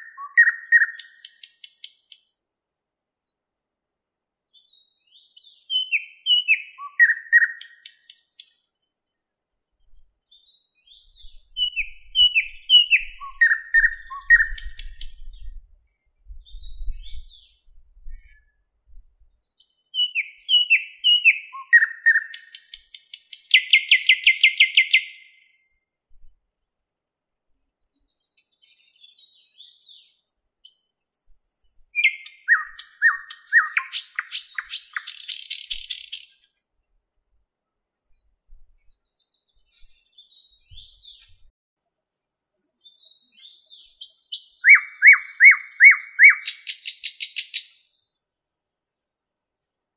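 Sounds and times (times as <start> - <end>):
bird singing: 0.0 - 2.5, 4.5 - 26.7, 27.8 - 36.8, 38.1 - 48.3.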